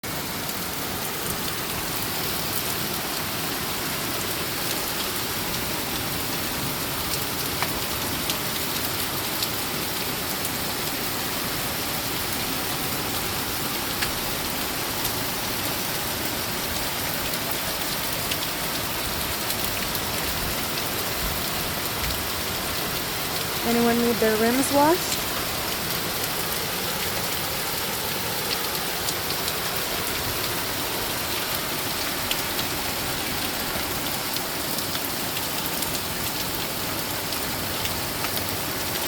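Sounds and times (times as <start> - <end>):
heavy rain pouring: 0.0 - 39.0
close raindrops striking: 0.1 - 39.0.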